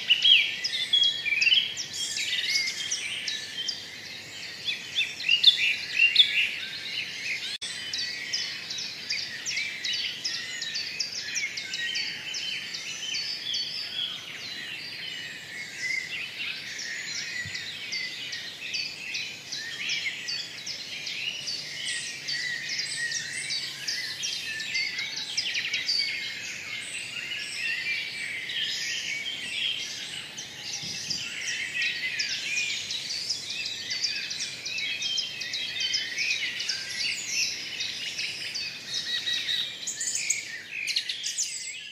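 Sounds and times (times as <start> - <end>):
birds chirping in chorus: 0.0 - 41.9.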